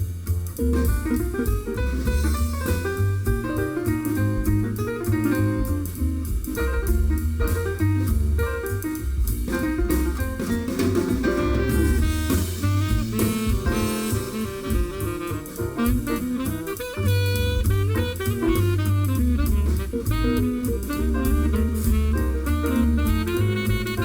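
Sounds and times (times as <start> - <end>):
jazz music through car speakers: 0.0 - 24.0.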